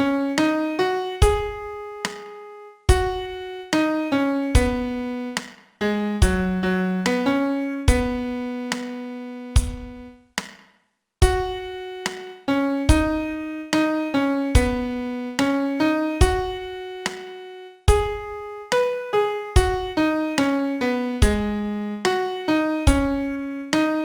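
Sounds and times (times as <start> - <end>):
slow piano melody: 0.0 - 10.2, 11.2 - 24.0.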